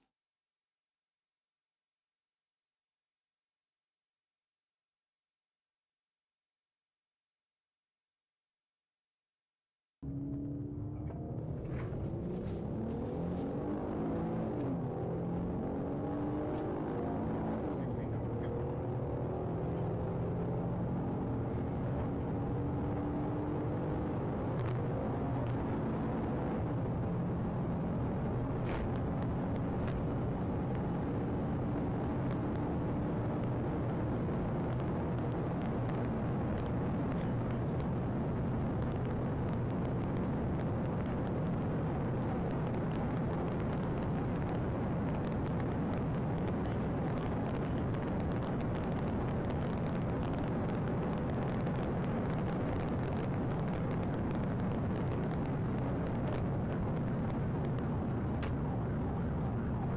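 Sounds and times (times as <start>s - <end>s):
car engine: 10.0s - 59.9s
road noise: 10.0s - 59.9s.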